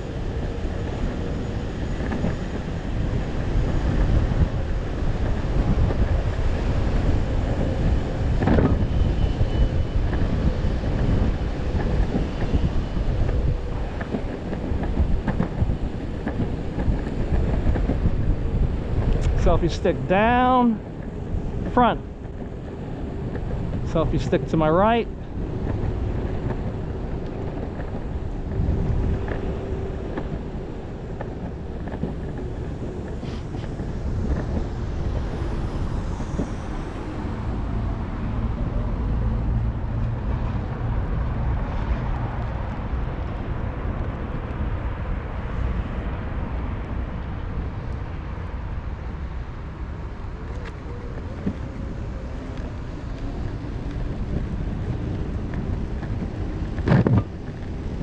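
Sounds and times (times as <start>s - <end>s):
skateboard wheels rolling on pavement: 0.0s - 58.0s
wind buffeting microphone: 0.0s - 58.0s.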